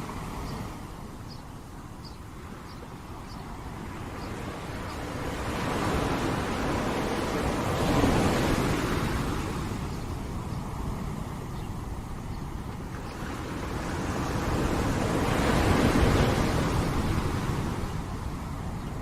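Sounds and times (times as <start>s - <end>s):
sea waves breaking on shore: 0.0s - 19.0s.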